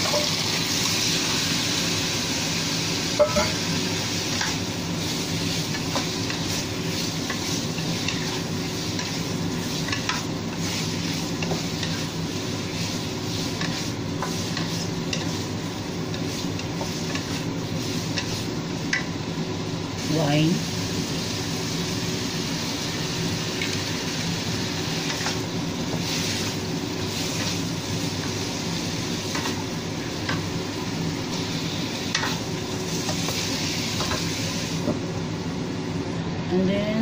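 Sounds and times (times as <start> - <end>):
chicken sizzling in a wok: 0.0 - 36.7.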